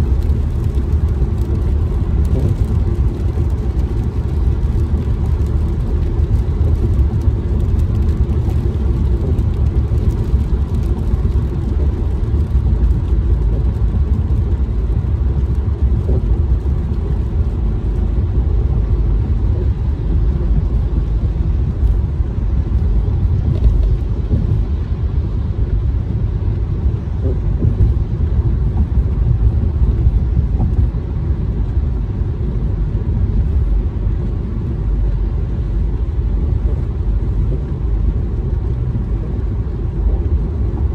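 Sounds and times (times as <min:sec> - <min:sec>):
car tyres on wet road: 0:00.0 - 0:40.9.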